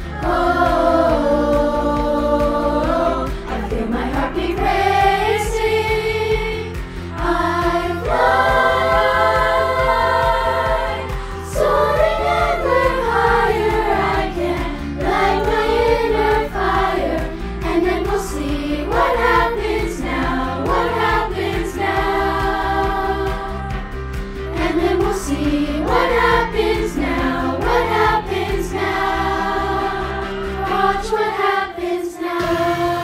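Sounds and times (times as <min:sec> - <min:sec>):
children's choir singing: 0:00.0 - 0:23.8, 0:24.5 - 0:33.0
accompaniment with low beat: 0:00.0 - 0:31.0.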